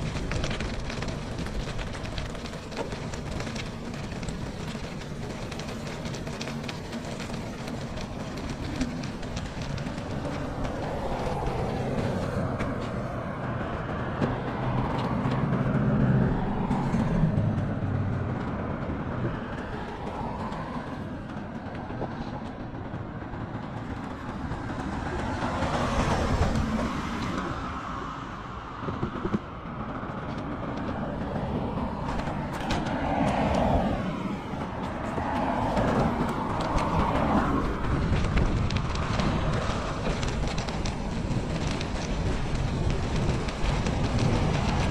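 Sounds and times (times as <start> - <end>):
bicycle riding noise: 0.0 - 44.9
wind buffeting microphone: 0.0 - 44.9.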